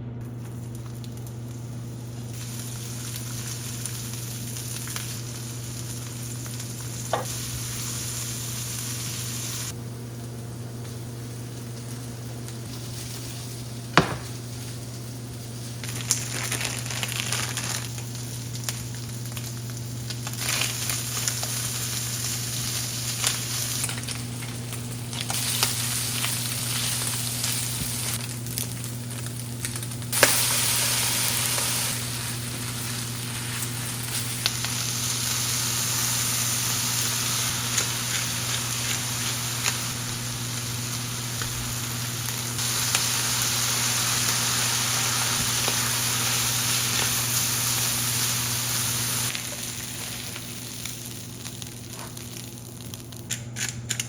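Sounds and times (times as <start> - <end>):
noodles sizzling in a frying pan: 0.4 - 53.3.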